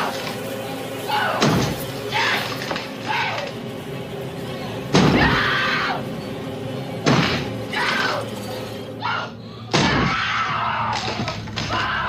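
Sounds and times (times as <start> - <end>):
music playing: 0.0 - 12.0.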